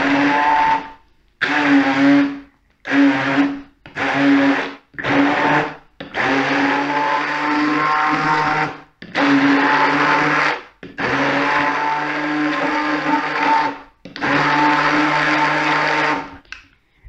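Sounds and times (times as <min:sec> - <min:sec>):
immersion blender running: 0:00.0 - 0:16.4.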